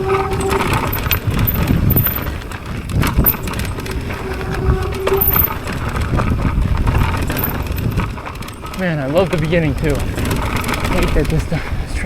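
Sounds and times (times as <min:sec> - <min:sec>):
bike rattling and knocking: 0:00.0 - 0:12.0
bike tyre rumble: 0:00.0 - 0:12.0.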